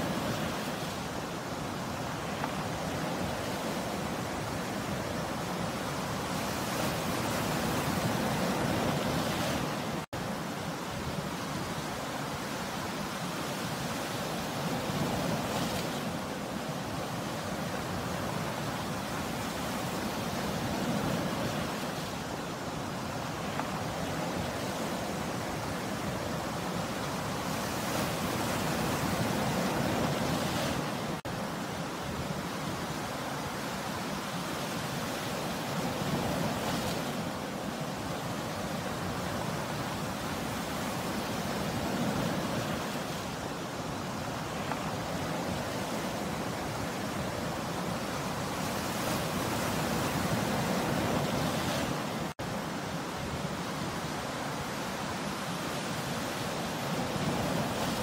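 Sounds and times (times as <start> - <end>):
waves breaking on shore: 0.0 - 58.0.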